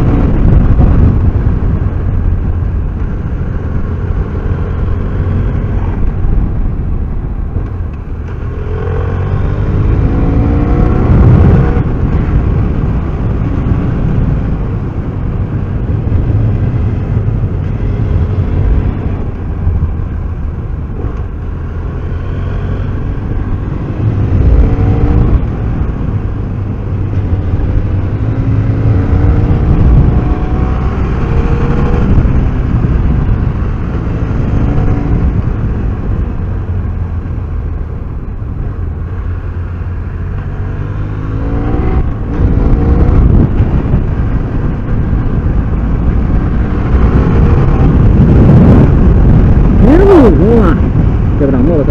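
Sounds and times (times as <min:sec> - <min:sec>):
motorcycle engine accelerating: 0:00.0 - 0:51.9
wind rumble on microphone: 0:00.0 - 0:51.9.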